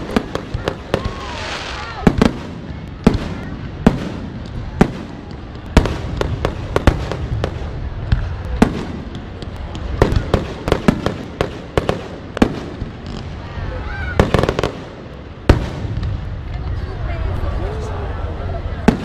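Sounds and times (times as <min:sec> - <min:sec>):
fireworks bursting: 0:00.0 - 0:18.0, 0:18.6 - 0:19.0.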